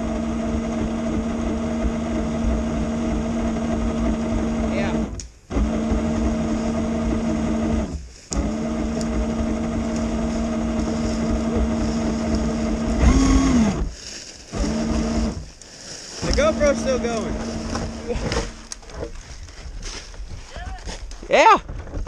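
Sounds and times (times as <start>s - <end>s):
rc truck electric motor hum: 0.0s - 13.9s, 14.5s - 15.6s, 16.2s - 18.9s.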